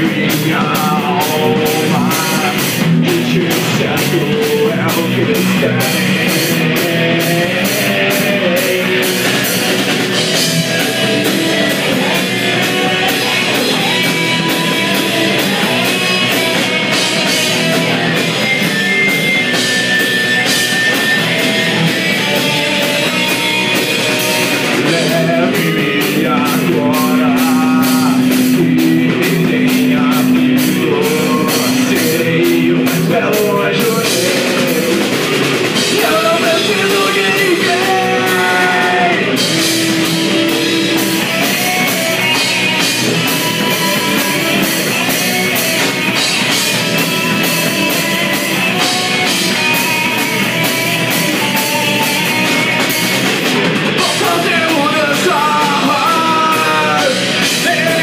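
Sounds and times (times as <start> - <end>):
drum kit: 0.0 - 58.0
electric bass: 0.0 - 58.0
electric guitars: 0.0 - 58.0
person singing: 0.0 - 58.0.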